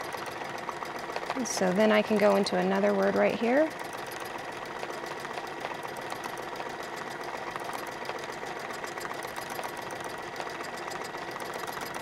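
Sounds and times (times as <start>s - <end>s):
sewing machine stitching: 0.0s - 12.0s.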